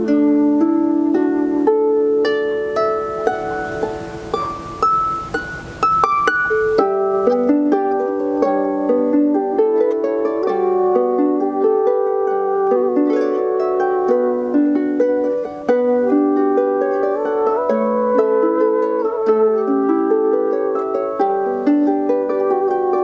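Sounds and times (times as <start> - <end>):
harp playing: 0.0 - 23.0
soft hiss: 0.0 - 23.0.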